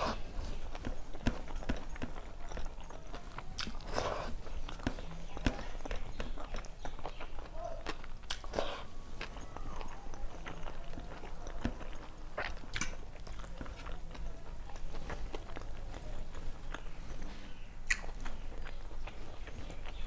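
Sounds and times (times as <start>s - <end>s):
fingers mixing food on steel plate: 0.0s - 20.0s
person chewing food: 0.0s - 20.0s.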